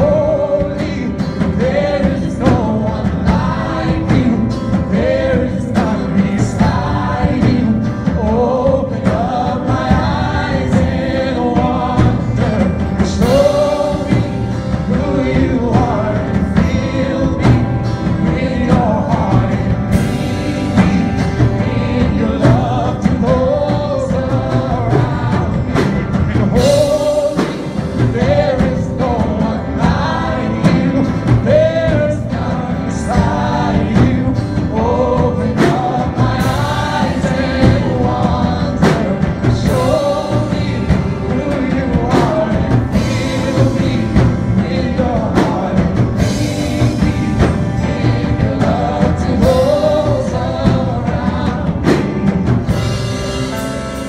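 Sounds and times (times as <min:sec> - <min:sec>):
electric guitar: 0:00.0 - 0:54.0
live worship band: 0:00.0 - 0:54.0
people singing on microphones: 0:00.0 - 0:54.0.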